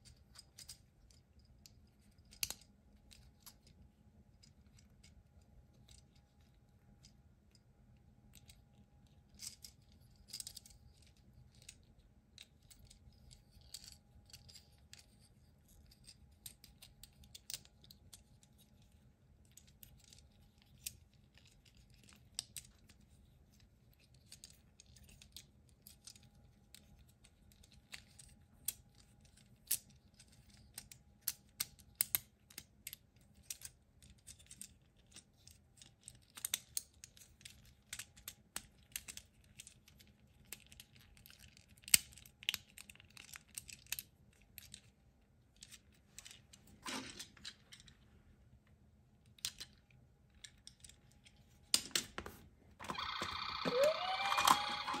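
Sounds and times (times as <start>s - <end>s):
plastic toy parts clicking and snapping: 0.3s - 3.8s, 8.3s - 45.0s, 49.2s - 55.0s.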